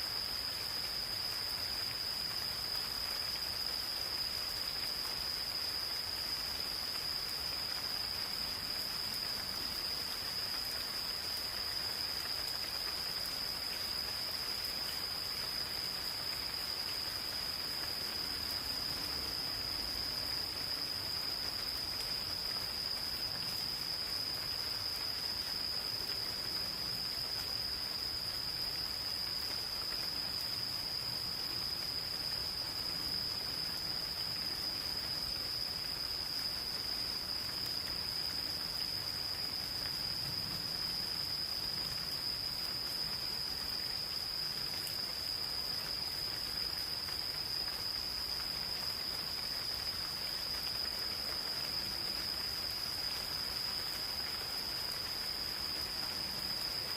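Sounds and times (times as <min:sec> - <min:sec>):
gentle rain falling: 0:00.0 - 0:56.9.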